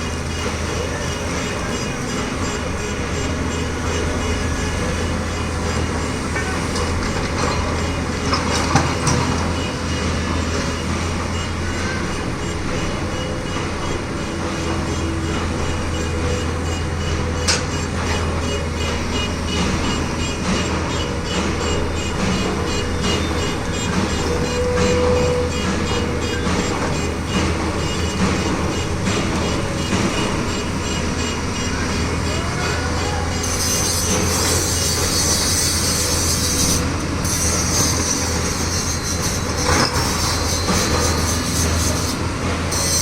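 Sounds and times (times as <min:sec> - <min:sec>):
construction machinery rumbling: 0:00.0 - 0:43.0
sharp metallic knocks: 0:05.7 - 0:43.0.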